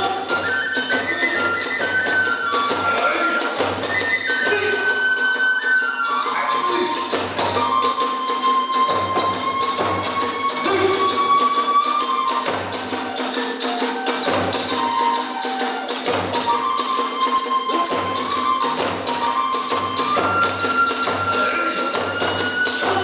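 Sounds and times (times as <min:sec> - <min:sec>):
bamboo flute melody: 0:00.0 - 0:23.0
fast drumming: 0:00.0 - 0:23.0
hand cymbals: 0:00.0 - 0:23.0.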